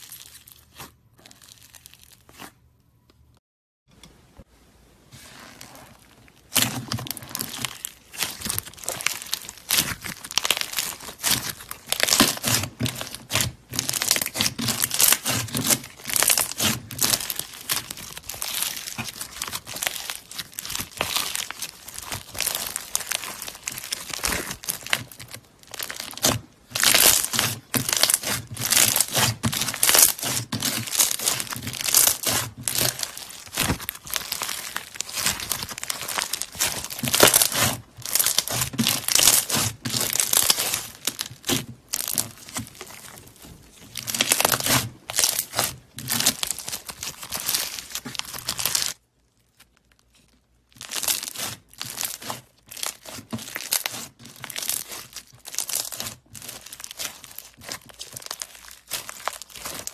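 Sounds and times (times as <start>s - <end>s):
foam bead slime crackling: 0.0s - 2.6s, 5.2s - 59.9s.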